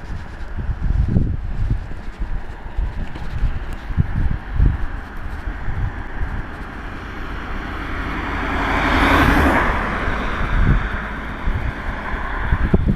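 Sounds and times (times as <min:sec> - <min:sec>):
car passing: 0:00.0 - 0:12.9
low gusty rumble: 0:00.0 - 0:12.9.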